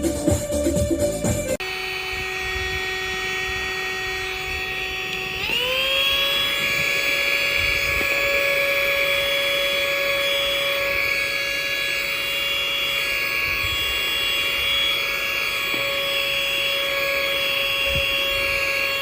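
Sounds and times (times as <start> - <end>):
mini vacuum motor whine: 0.0 - 19.0.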